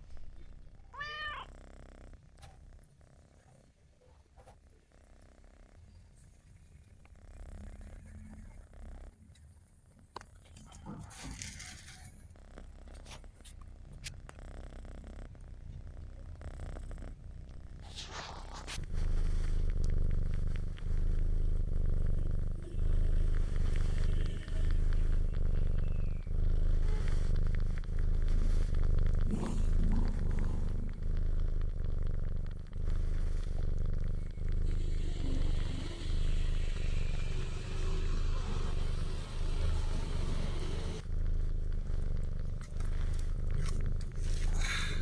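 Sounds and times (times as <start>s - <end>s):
cat purring: 0.0s - 45.0s.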